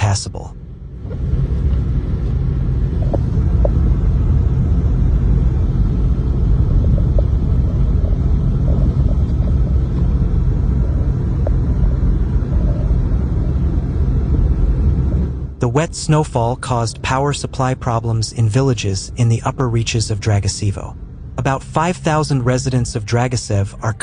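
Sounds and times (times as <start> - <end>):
loud low rumble: 0.0 - 24.0.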